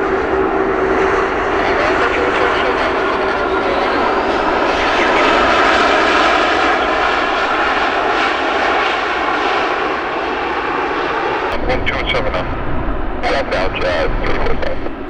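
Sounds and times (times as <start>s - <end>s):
airliner engines running: 0.0s - 15.0s.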